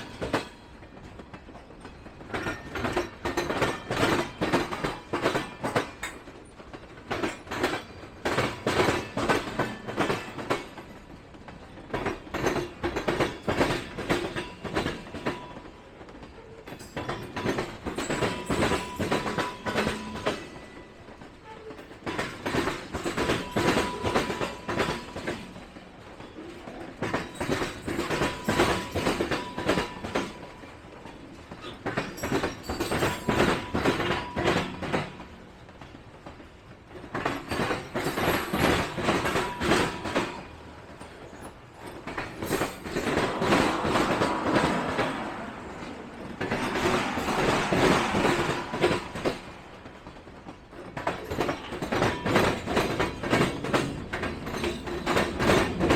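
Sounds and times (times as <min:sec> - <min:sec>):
train wheels clacking on track: 0:00.0 - 0:55.9.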